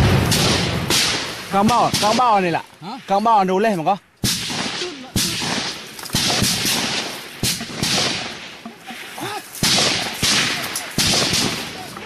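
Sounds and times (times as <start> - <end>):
gunshots echoing: 0.0 - 2.5, 4.2 - 12.0.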